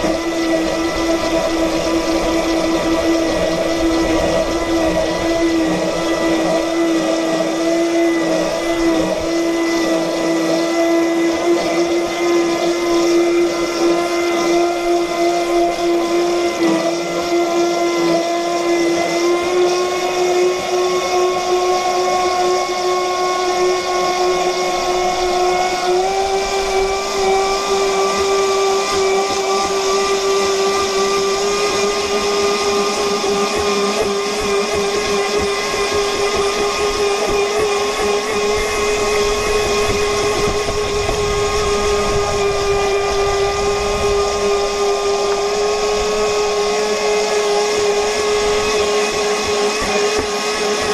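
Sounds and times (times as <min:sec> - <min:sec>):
model boat motor whining: 0:00.0 - 0:50.9
water and wind rushing: 0:00.0 - 0:50.9.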